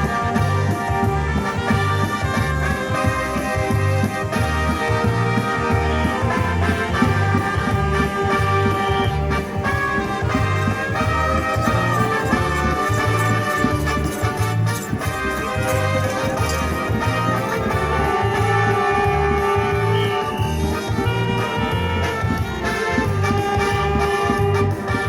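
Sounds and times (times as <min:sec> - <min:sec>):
live band playing upbeat tune: 0:00.0 - 0:25.0
pulsing bass line: 0:00.0 - 0:25.0.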